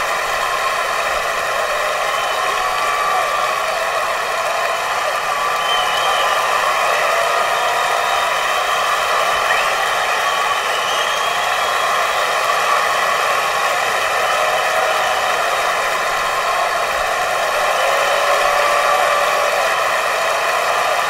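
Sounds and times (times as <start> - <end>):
audience clapping: 0.0 - 21.0
crowd cheers and shouts: 0.0 - 21.0.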